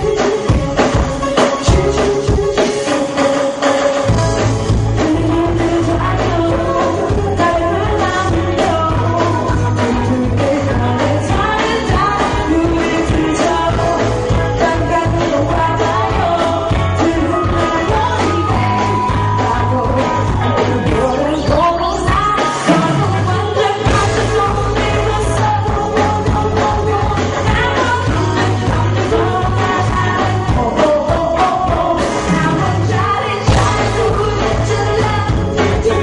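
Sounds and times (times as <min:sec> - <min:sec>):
pop-rock song with singer: 0:00.0 - 0:36.0.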